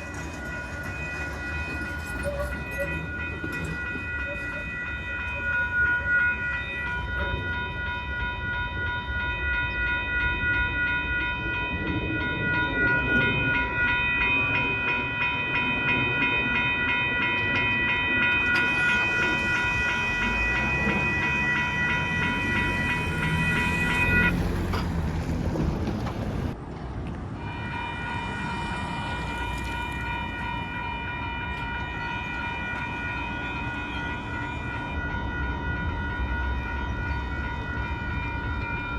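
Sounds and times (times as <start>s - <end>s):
crossing warning bells ringing: 0.0s - 26.6s, 27.4s - 38.9s
light rail train rolling: 0.0s - 38.9s.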